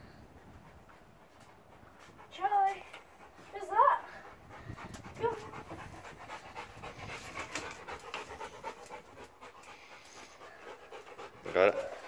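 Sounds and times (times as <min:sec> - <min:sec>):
dog panting rapidly: 0:00.3 - 0:12.0.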